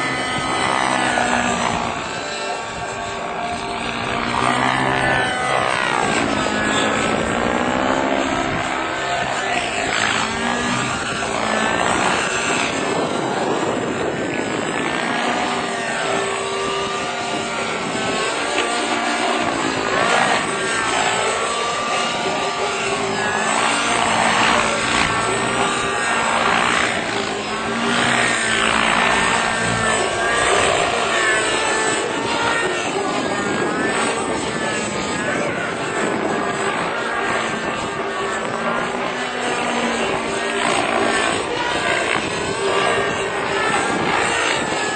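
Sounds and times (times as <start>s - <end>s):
helicopter running: 0.0s - 44.9s.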